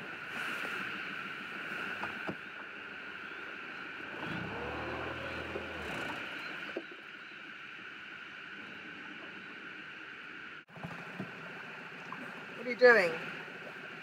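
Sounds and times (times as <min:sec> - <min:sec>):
outboard motor running: 0:01.0 - 0:10.0, 0:10.7 - 0:14.0.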